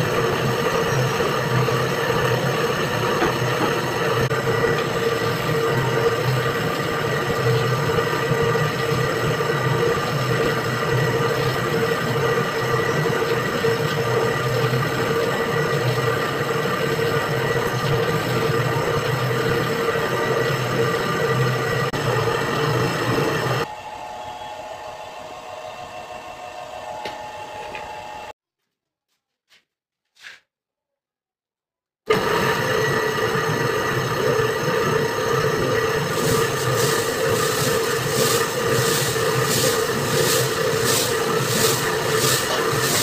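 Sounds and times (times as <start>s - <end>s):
dough mixer running: 0.0s - 28.3s, 32.1s - 43.0s.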